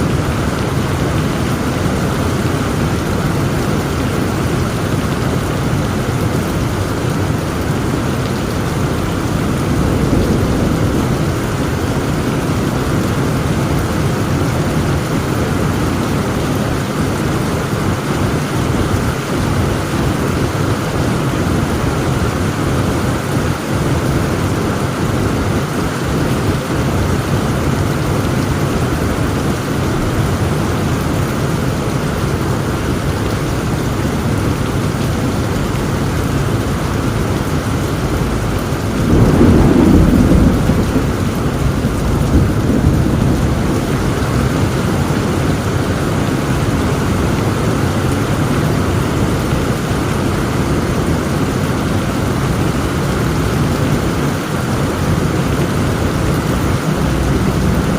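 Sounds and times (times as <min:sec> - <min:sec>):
heavy rain falling: 0:00.0 - 0:57.9
thunder rumbling: 0:00.0 - 0:57.9.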